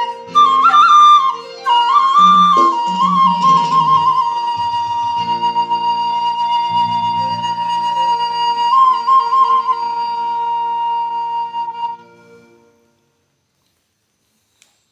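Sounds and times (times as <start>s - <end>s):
bamboo flute melody: 0.0s - 12.8s
soft low accompaniment: 1.4s - 13.4s.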